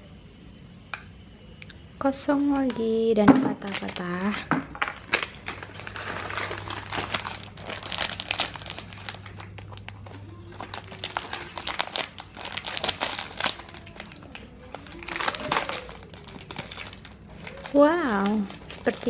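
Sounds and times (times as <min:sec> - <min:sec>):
plastic snack packets crinkling: 0:02.3 - 0:19.0.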